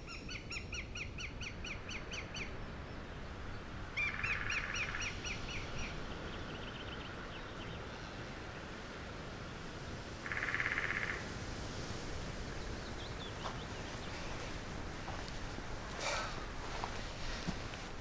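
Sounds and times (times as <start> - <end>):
songbirds chirping: 0.0 - 18.0
steady low background noise: 0.0 - 18.0.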